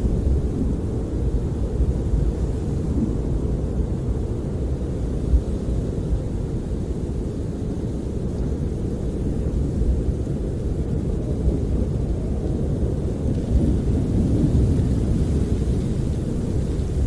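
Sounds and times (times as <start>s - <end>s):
wind blowing deep rumble: 0.0s - 17.0s.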